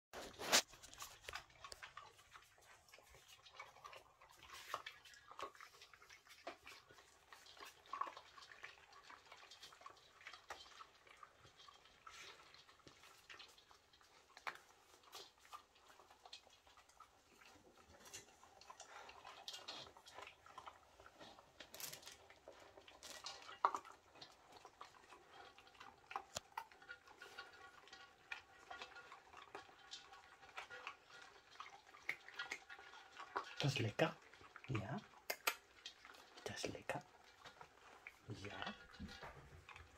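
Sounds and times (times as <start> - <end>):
animals crunching dry kibble: 0.2 - 39.9.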